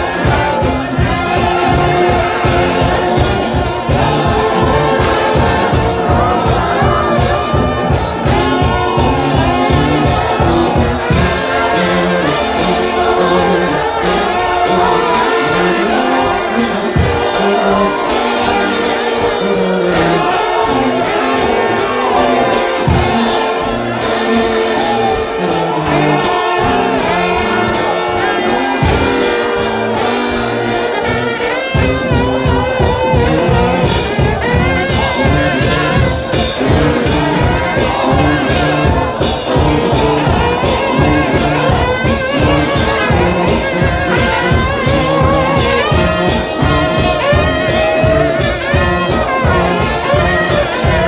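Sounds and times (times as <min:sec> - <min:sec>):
brass band playing: 0:00.0 - 0:51.0
steady drum beat: 0:00.0 - 0:51.0.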